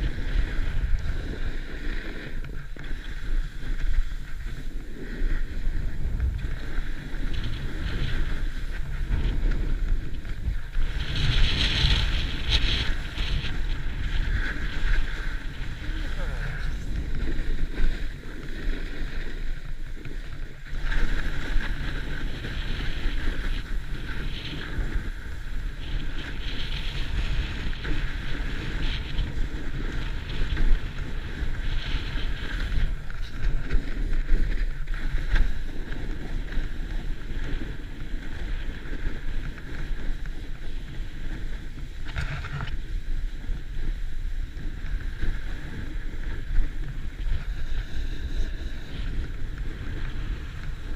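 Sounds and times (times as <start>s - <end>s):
snowboard carving on snow: 0.0s - 50.9s
wind buffeting microphone: 0.0s - 50.9s.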